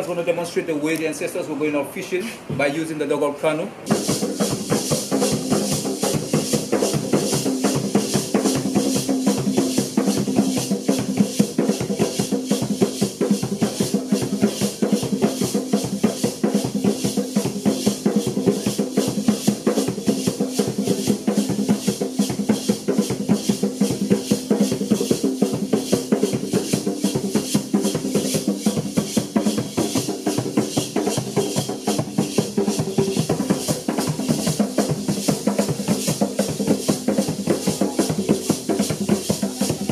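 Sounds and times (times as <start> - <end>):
hand drums fast beat: 3.9 - 39.9.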